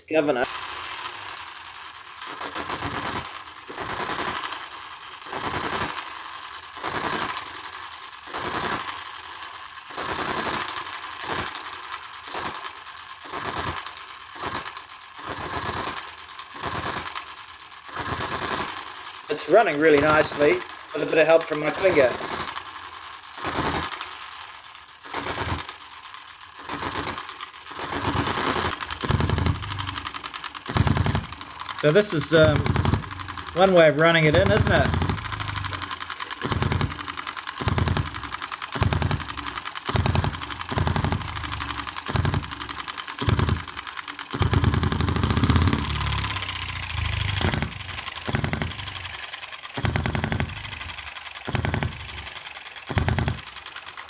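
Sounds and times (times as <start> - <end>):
fast mechanical ticking: 0.0 - 54.0
engine firing in rapid pops: 0.4 - 54.0.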